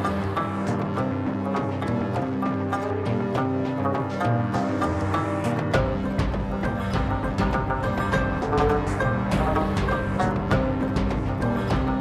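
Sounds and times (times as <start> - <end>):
percussion strikes: 0.0 - 12.0.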